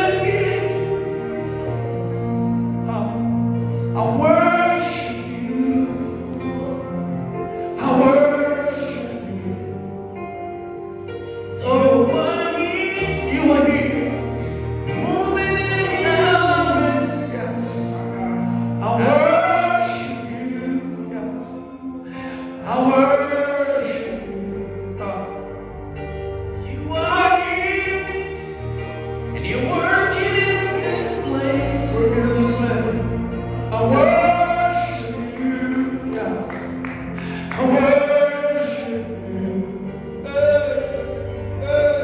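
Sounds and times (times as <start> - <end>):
voices singing gospel: 0.0 - 10.2, 11.6 - 25.7, 26.6 - 42.0
sustained instrumental chords: 0.0 - 42.0.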